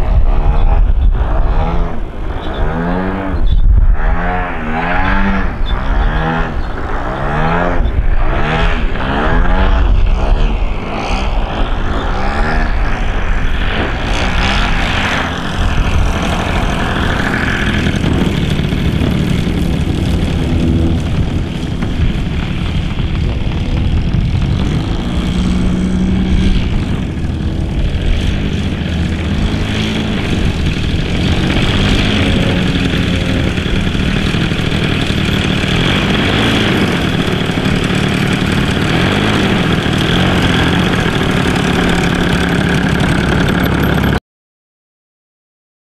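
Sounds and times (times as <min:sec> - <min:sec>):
model airplane engine buzzing: 0:00.0 - 0:44.2.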